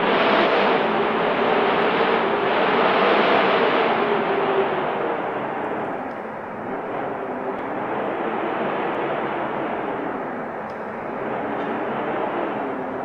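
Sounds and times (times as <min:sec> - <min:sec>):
snowstorm wind blowing: 0:00.0 - 0:13.0.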